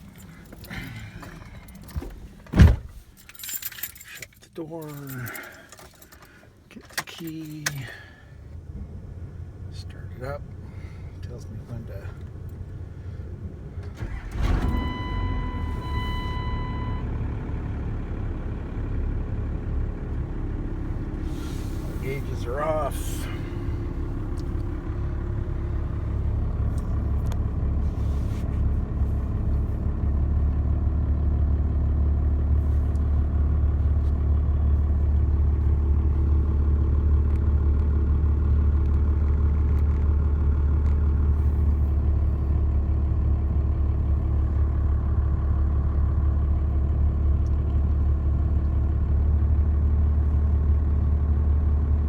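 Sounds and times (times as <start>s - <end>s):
diesel engine idling: 0.0s - 2.4s, 7.4s - 52.0s.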